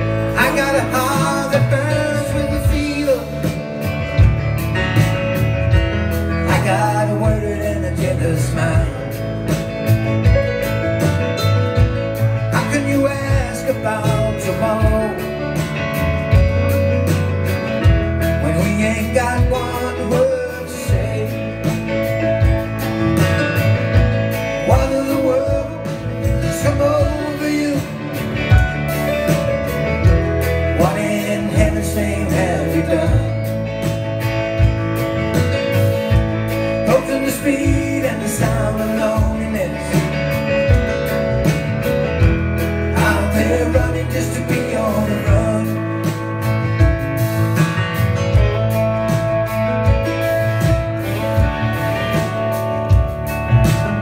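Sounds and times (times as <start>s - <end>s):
bending lead guitar lines: 0.0s - 54.0s
live country-rock band playing: 0.0s - 54.0s.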